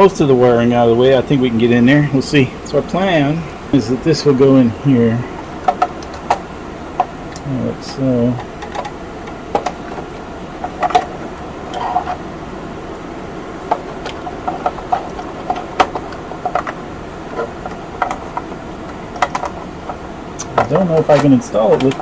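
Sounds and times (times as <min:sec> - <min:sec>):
steady noisy hum: 0:00.0 - 0:22.0.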